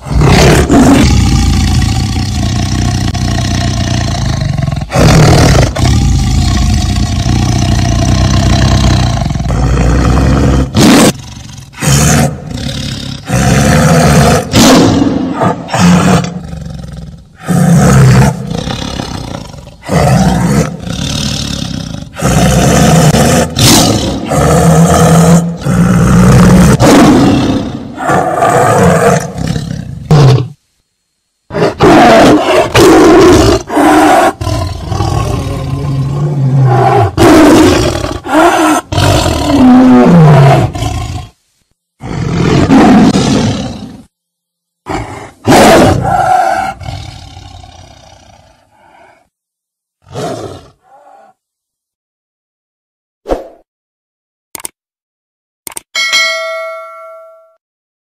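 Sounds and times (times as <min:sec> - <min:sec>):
tiger roaring and growling: 0:00.0 - 0:30.6, 0:31.5 - 0:41.4, 0:42.0 - 0:44.1, 0:44.8 - 0:49.3, 0:50.0 - 0:51.4.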